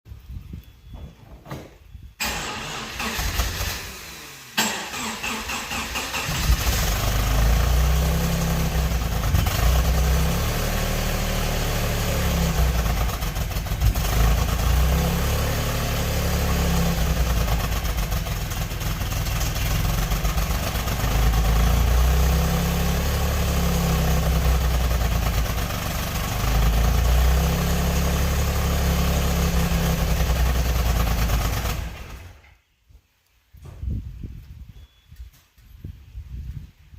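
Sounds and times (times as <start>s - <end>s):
engine running with misfire: 2.2s - 32.4s
car engine starting: 2.2s - 32.5s.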